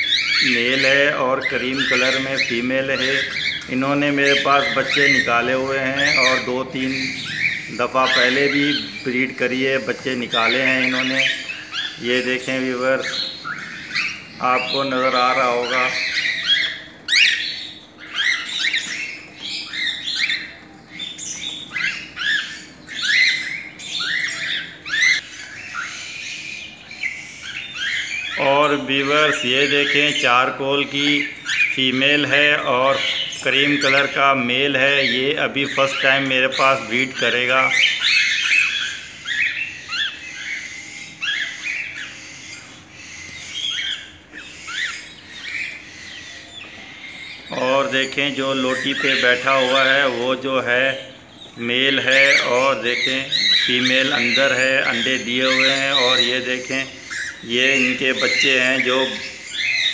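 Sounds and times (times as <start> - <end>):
cockatiels chirping and squawking: 0.0 - 59.9.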